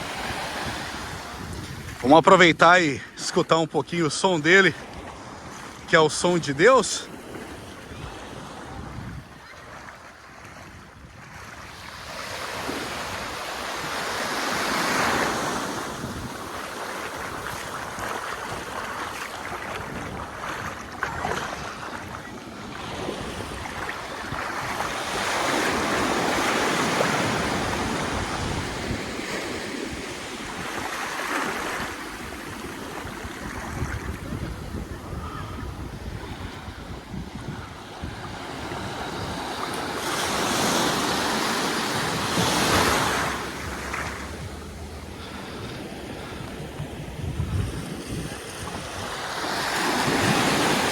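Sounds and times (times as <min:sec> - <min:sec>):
sea waves breaking on shore: 0:00.0 - 0:50.9.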